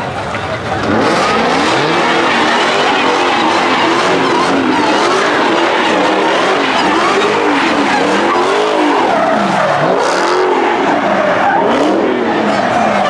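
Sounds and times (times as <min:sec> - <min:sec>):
loud car engine: 0:00.0 - 0:13.0
tyres squealing: 0:00.0 - 0:13.0.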